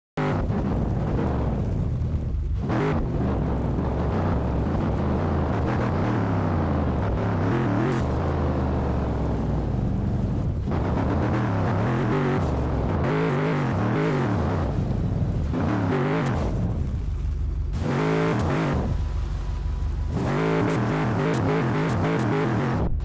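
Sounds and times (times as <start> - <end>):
car engine running: 0.2 - 23.0.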